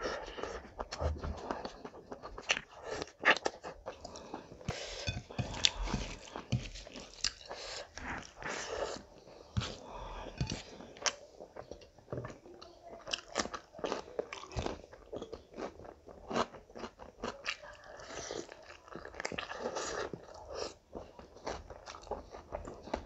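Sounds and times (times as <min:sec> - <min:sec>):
chewing rice and curry: 0:00.0 - 0:23.0.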